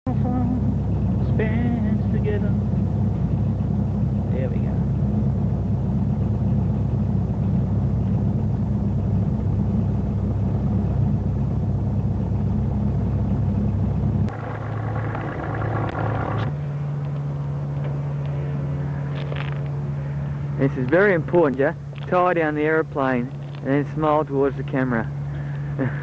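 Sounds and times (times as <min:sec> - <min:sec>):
light aircraft engine rumbling: 0:00.1 - 0:26.0
steady pitched hum: 0:00.1 - 0:26.0.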